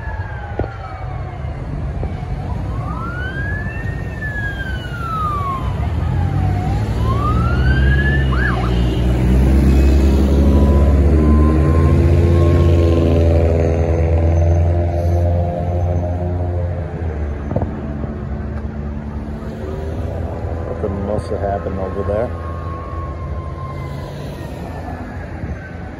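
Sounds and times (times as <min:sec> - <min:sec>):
emergency sirens wailing: 0:00.0 - 0:25.9
siren chirps: 0:00.0 - 0:25.9
vehicle engine rumble: 0:00.0 - 0:25.9.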